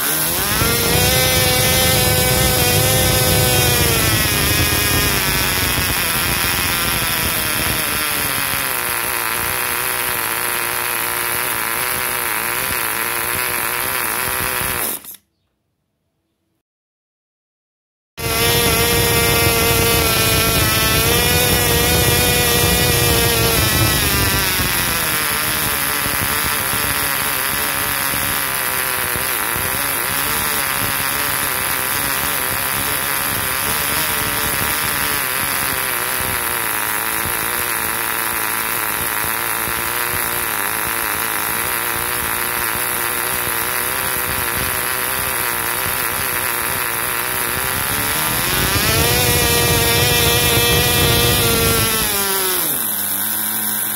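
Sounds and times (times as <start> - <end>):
model engine propeller running: 0.0 - 15.2, 18.2 - 53.9.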